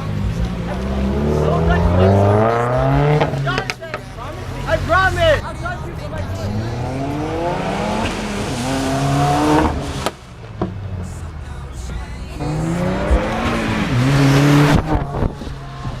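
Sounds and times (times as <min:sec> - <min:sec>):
car engine revving hard: 0:00.0 - 0:10.2, 0:12.4 - 0:16.0.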